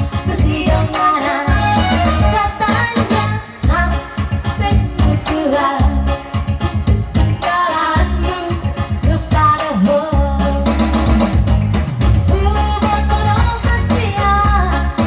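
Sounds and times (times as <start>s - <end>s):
person singing: 0.0s - 6.6s, 7.4s - 11.3s, 12.3s - 15.0s
backing music with low beat: 0.0s - 15.0s.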